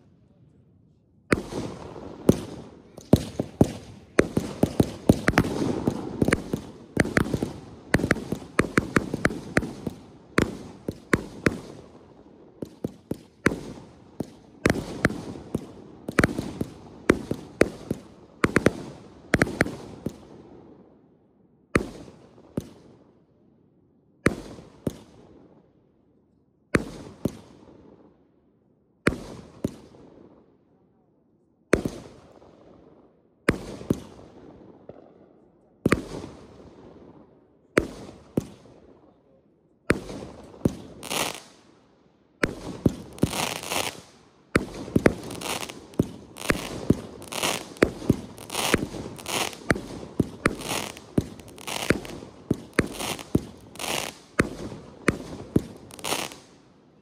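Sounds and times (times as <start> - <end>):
fireworks reports with echo: 0.0 - 20.8, 21.7 - 23.1, 24.2 - 25.6, 26.8 - 28.1, 29.0 - 41.8, 42.4 - 57.0
fireworks volley and crackling: 0.0 - 23.4, 24.2 - 28.4, 29.0 - 57.0.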